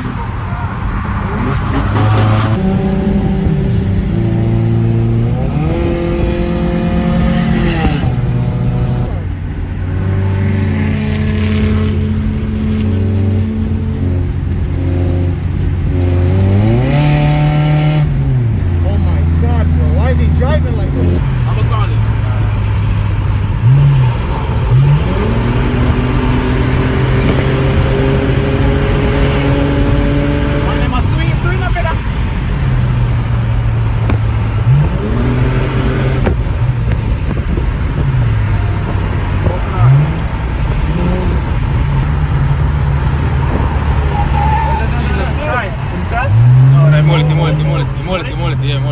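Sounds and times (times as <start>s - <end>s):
car engine running and revving: 0.0s - 48.9s.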